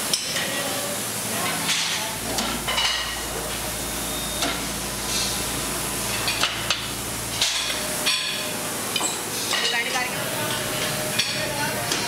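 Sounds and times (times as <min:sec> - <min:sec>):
tube-bending machine humming: 0:00.0 - 0:12.0.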